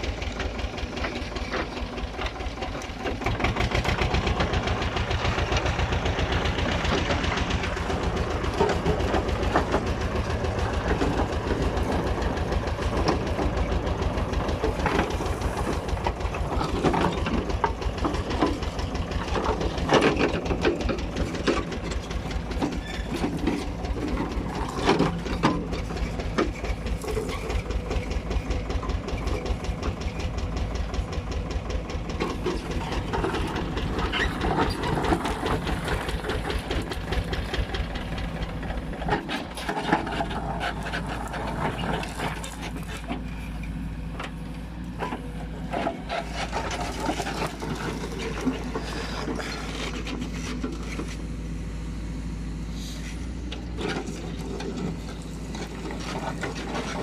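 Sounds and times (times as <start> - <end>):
backhoe digging through rubble: 0.0 - 57.0
diesel engine running under load: 0.0 - 57.0.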